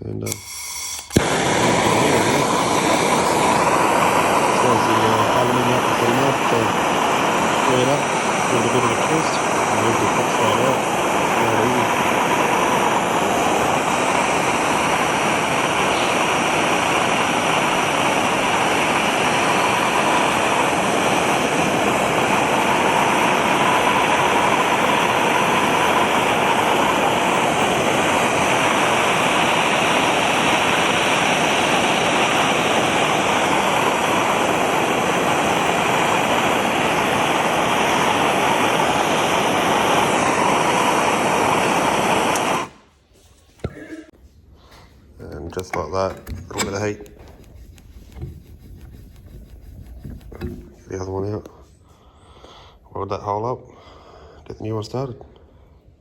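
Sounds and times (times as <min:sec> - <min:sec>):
heating tool roaring: 0:00.0 - 0:42.9, 0:45.6 - 0:51.6.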